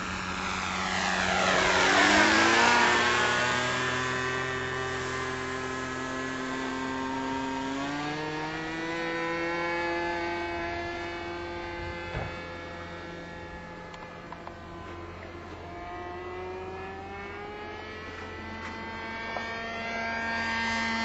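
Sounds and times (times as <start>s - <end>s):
model plane engine buzzing: 0.0s - 21.0s.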